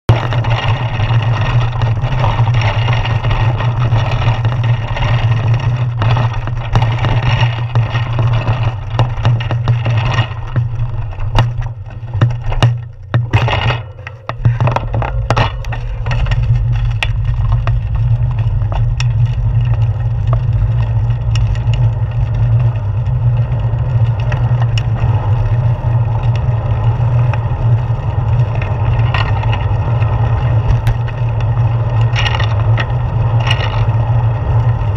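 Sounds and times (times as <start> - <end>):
tyre and road rumble: 0.0 - 34.9
clicks and rattles from bumps: 0.1 - 26.5, 27.1 - 34.9
wind rushing over camera: 0.1 - 34.9.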